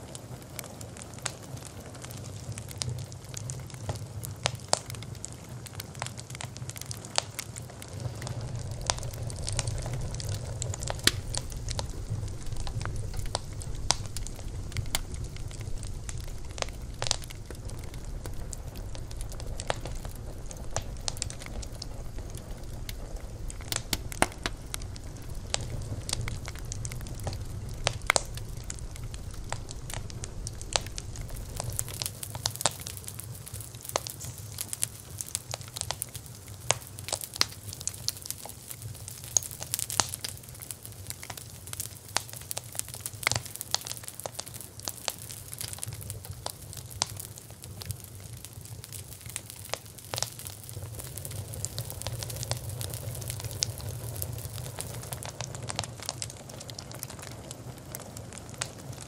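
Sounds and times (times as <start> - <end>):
bonfire flame rumbling: 0.0 - 59.0
burning wood crackling: 0.0 - 59.0.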